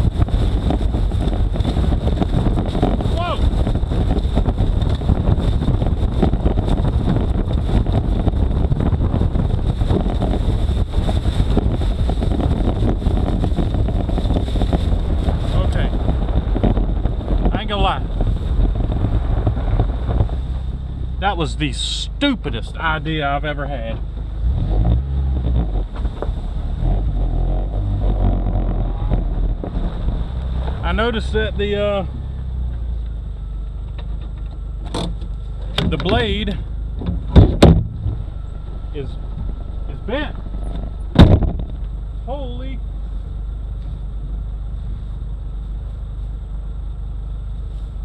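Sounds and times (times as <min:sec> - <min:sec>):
wind buffeting microphone: 0:00.0 - 0:21.8, 0:24.0 - 0:42.2
vehicle engine rushing: 0:00.0 - 0:48.0.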